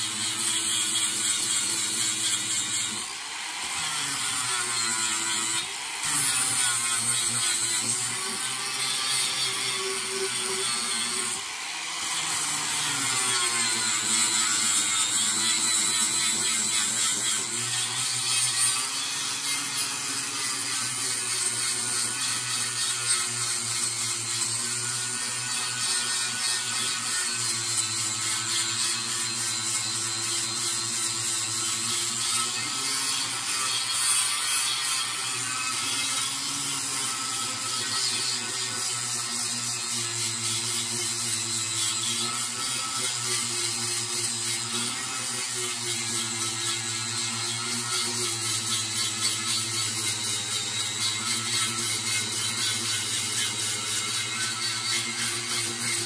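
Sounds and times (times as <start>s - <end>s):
angle grinder grinding steel: 0.0s - 56.0s.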